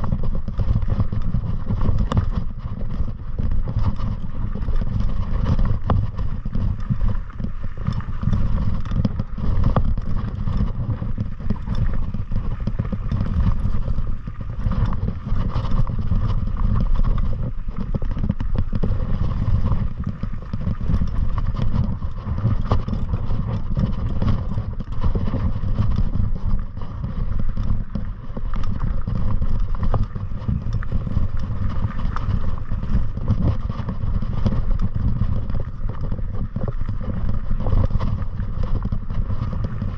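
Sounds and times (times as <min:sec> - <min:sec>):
wind buffeting on microphone: 0:00.0 - 0:39.9.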